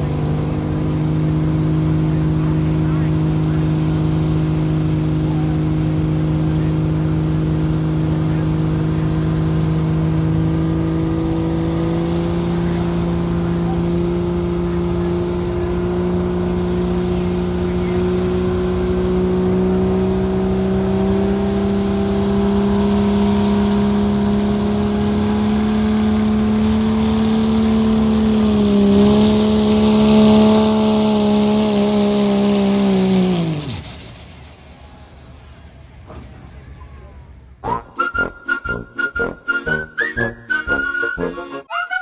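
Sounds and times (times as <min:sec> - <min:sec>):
engine at full throttle: 0:00.0 - 0:41.6.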